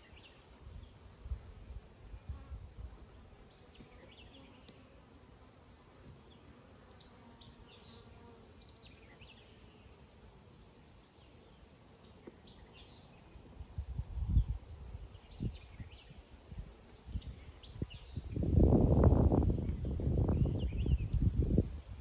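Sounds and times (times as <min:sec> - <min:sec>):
honeybees buzzing: 0:00.1 - 0:21.7.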